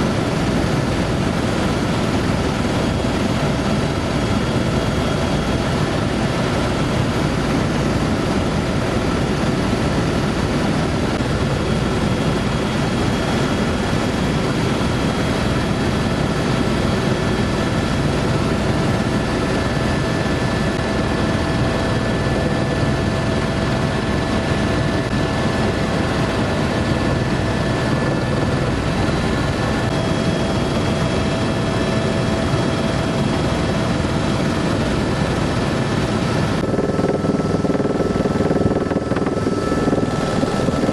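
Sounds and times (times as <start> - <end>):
faint steady whine: 0.0 - 40.9
helicopter engine and rotor noise: 0.0 - 40.9.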